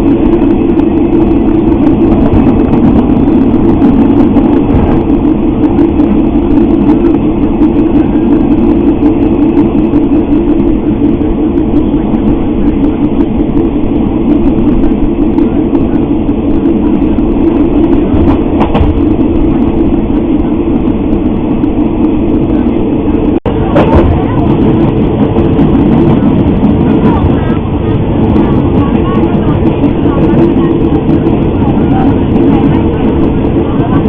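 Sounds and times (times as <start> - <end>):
passenger train rumbling: 0.0 - 34.0.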